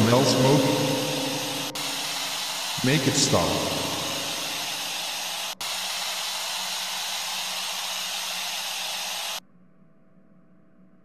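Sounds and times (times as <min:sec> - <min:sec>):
steady hiss: 0:00.0 - 0:09.4
faint hum: 0:00.0 - 0:11.0.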